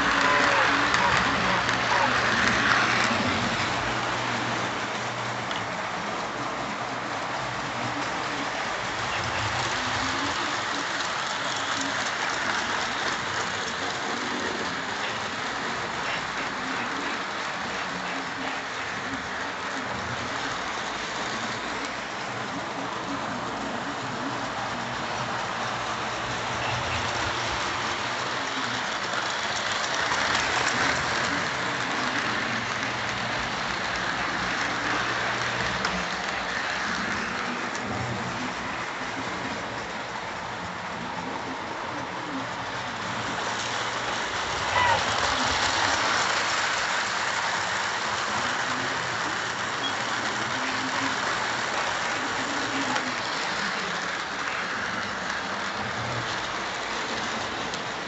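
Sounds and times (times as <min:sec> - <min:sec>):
model train cars clattering: 0:00.0 - 0:58.0.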